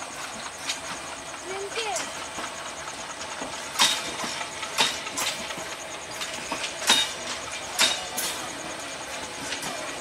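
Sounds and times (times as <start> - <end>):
train rumble: 0.0 - 10.0
train wheels clacking on rail joints: 0.0 - 10.0.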